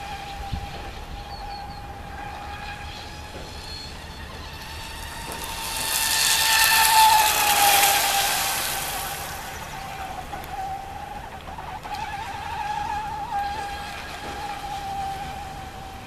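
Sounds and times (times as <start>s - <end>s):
electric motor whining: 0.0s - 16.0s
water spray hissing: 2.0s - 15.7s.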